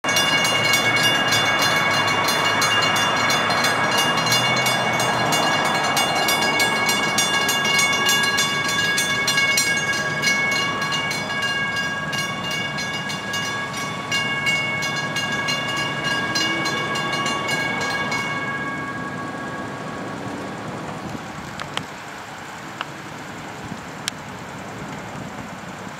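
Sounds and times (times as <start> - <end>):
railroad crossing bells ringing: 0.0 - 21.0.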